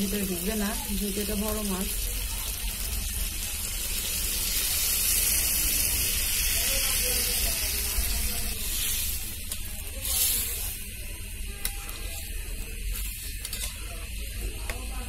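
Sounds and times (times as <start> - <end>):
curry boiling and sizzling in pot: 0.0 - 15.0.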